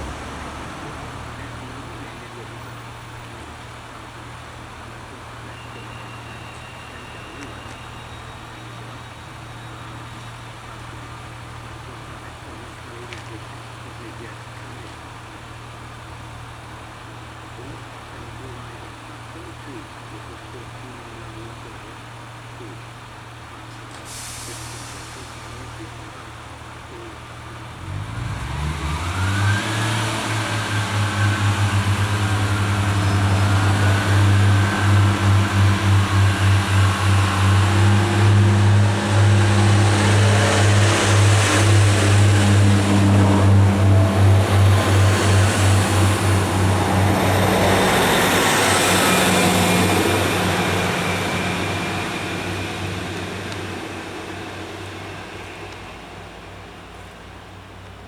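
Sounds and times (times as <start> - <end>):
high-pitched engine whine: 0.0 - 57.5
diesel train engine throbbing: 0.0 - 58.0.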